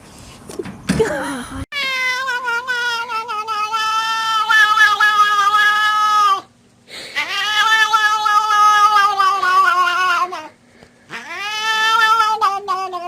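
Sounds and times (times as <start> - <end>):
cat yowling: 1.8 - 6.5, 7.1 - 13.0.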